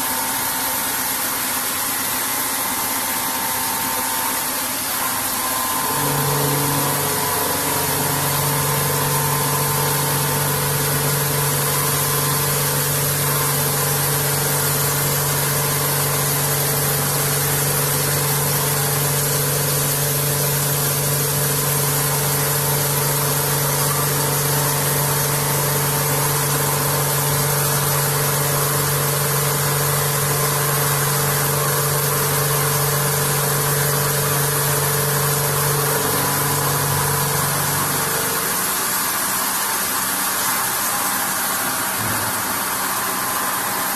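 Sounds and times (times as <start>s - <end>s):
milling machine cutting drone: 0.0s - 43.9s.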